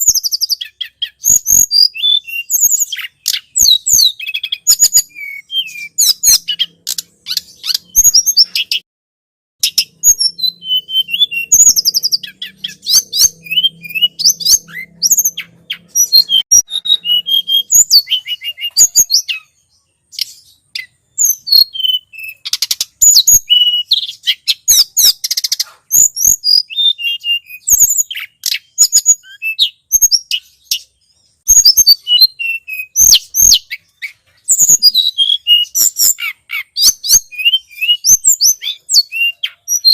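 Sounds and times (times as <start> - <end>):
bird chirping rapidly: 0.0 - 8.8, 9.6 - 39.9.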